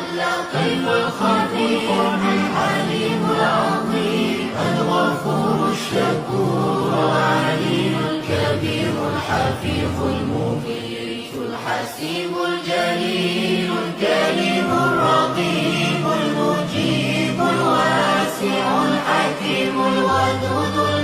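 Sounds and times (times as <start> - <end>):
unaccompanied choir chanting: 0.0 - 21.0.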